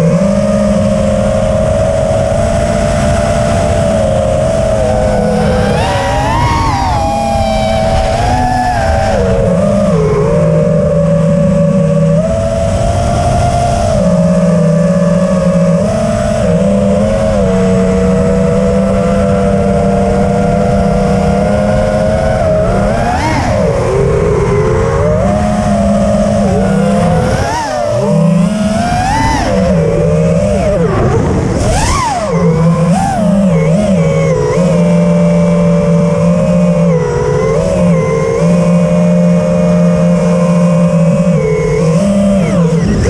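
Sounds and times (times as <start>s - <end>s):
drone motors whining: 0.0s - 43.0s.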